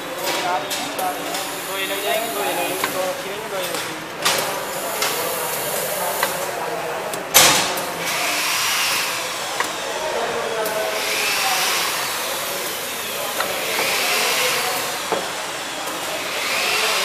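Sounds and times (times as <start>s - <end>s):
factory machinery whirring: 0.0s - 17.0s.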